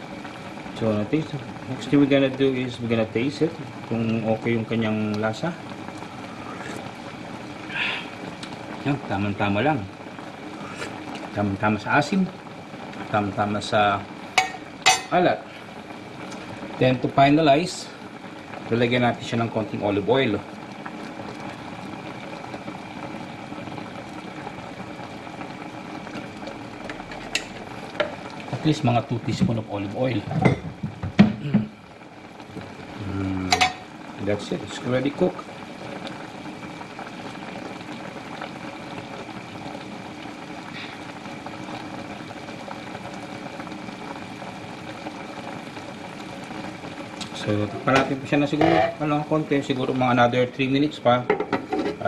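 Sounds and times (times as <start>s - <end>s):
broth simmering and bubbling: 0.0s - 52.0s.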